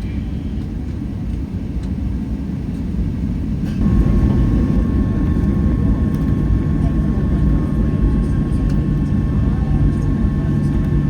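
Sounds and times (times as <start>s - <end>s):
jet engine low rumble: 0.0s - 11.0s
jet engine whine: 0.0s - 11.0s.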